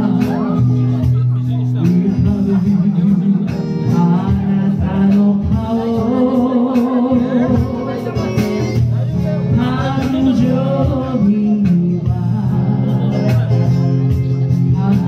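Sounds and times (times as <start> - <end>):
man singing: 0.0 - 15.0
strummed acoustic guitar: 0.0 - 15.0.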